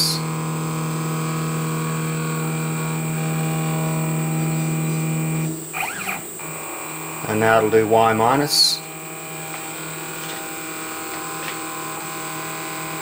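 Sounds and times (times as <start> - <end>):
milling machine motors humming: 0.0 - 13.0.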